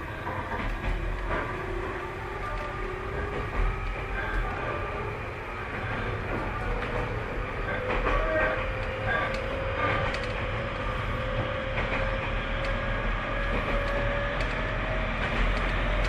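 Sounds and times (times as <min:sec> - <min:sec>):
train wheels rumbling on rails: 0:00.0 - 0:16.0
wheels clicking over rail joints: 0:00.0 - 0:16.0.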